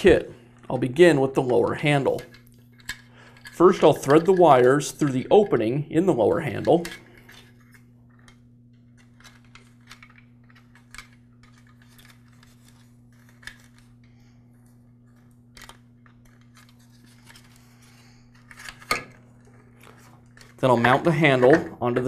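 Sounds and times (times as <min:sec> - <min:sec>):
steady low hum: 0:00.0 - 0:22.0
wire clicks and rustles: 0:00.0 - 0:22.0.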